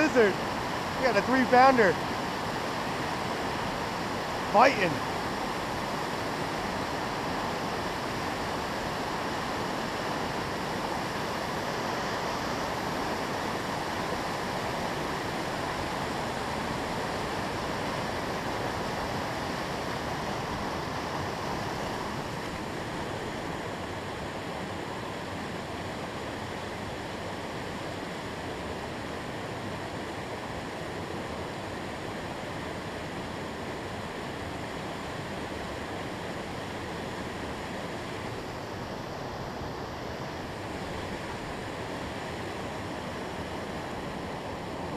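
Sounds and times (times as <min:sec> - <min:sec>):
whitewater rushing over falls: 0:00.0 - 0:44.9.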